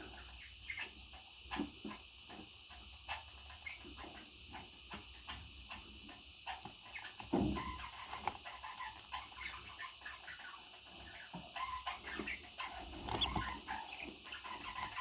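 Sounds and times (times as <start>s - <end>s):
parrot clucking and chattering: 0.0s - 15.0s.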